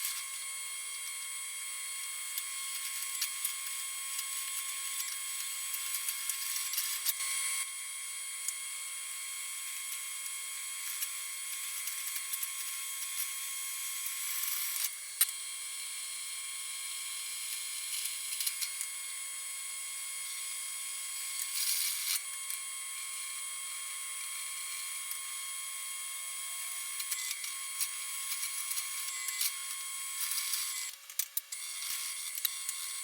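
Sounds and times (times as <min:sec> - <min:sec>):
drill bit cutting steel: 0:00.0 - 0:31.0
drill press motor whine: 0:00.0 - 0:33.0.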